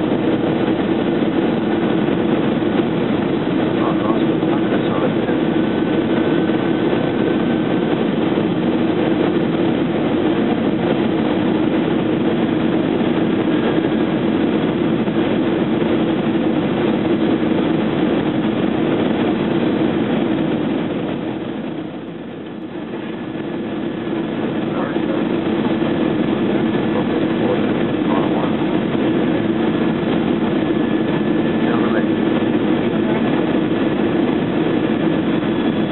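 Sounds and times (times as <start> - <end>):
aircraft cabin engine and airflow noise: 0.0 - 35.9
steady low hum: 0.0 - 35.9.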